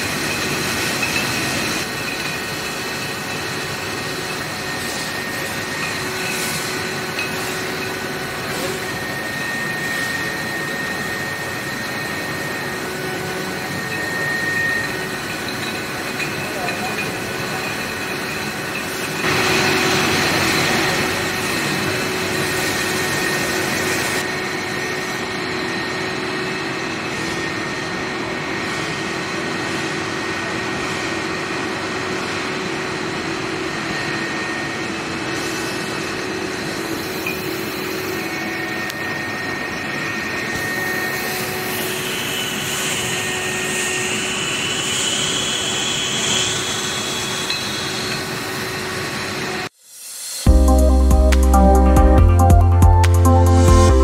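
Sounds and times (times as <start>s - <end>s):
constant machine hums: 0.0s - 49.8s
conveyor machinery din: 0.0s - 54.0s.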